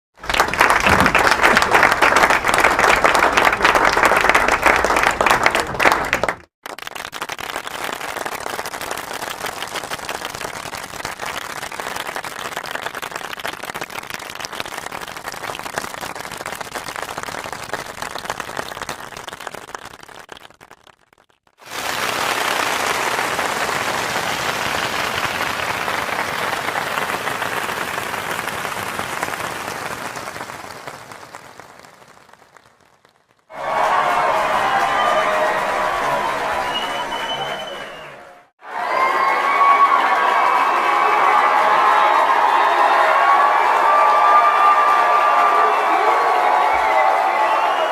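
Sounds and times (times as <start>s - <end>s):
audience applause: 0.2s - 47.9s.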